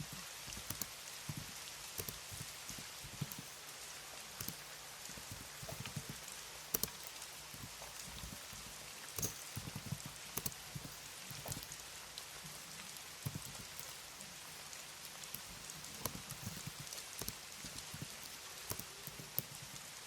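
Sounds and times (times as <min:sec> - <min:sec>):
rain: 0:00.0 - 0:20.0
soft keyboard typing: 0:00.0 - 0:20.0.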